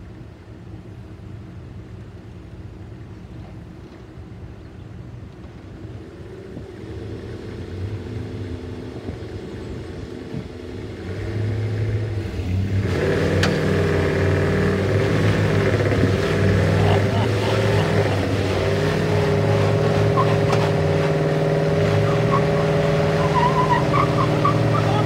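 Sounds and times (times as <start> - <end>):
engine working under load: 0.0 - 25.0.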